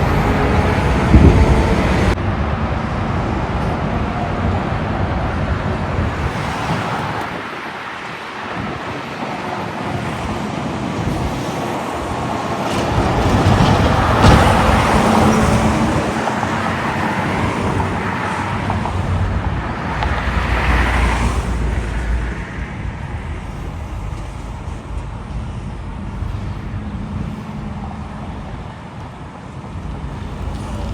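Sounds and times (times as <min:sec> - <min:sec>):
road traffic passing: 0:00.0 - 0:30.9.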